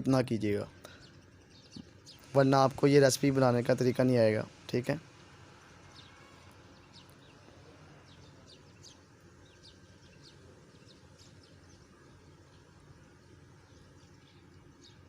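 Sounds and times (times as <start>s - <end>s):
low steady hiss: 0.0s - 15.0s
small birds chirping: 0.0s - 15.0s.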